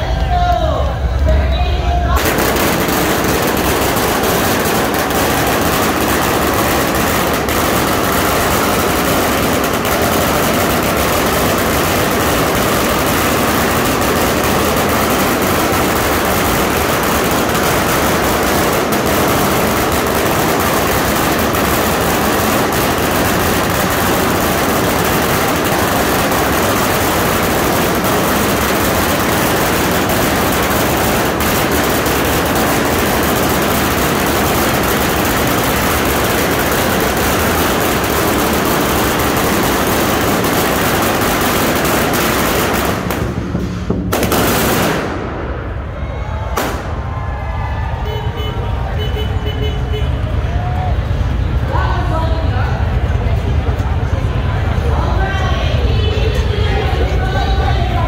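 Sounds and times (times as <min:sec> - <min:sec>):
firecrackers crackling: 0:00.0 - 0:58.0.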